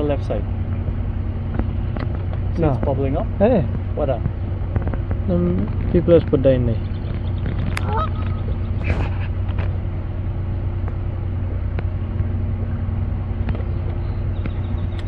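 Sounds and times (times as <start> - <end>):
outboard motor humming: 0.0 - 15.0
water and wind noise: 0.0 - 15.0.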